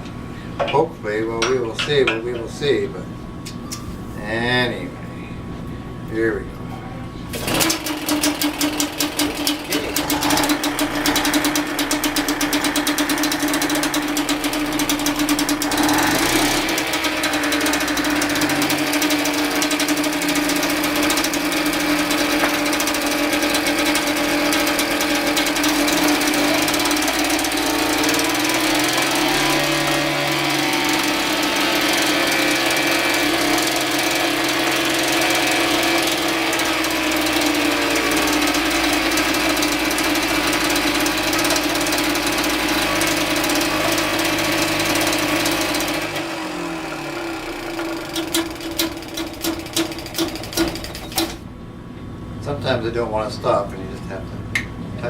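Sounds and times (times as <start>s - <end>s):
outboard motor running: 7.3s - 51.5s.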